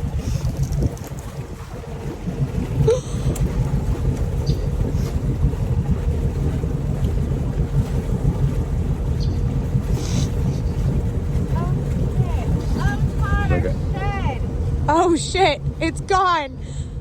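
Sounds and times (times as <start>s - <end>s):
low engine rumble: 0.0s - 17.0s
water washing around wheels: 0.0s - 17.0s.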